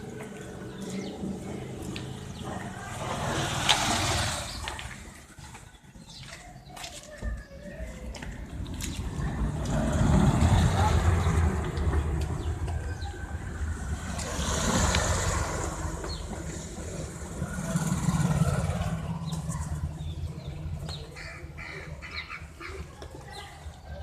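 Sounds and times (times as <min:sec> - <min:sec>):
birds chirping: 0:00.0 - 0:24.0
vehicles passing: 0:00.0 - 0:24.0.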